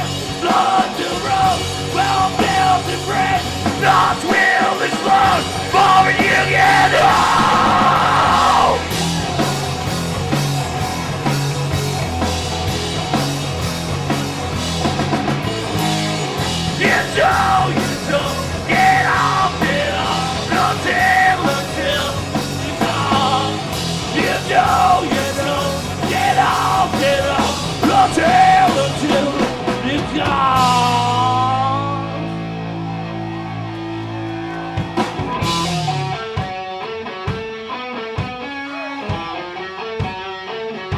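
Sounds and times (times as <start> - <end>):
yelled vocals: 0.0 - 36.6
live rock band playing: 0.0 - 40.9.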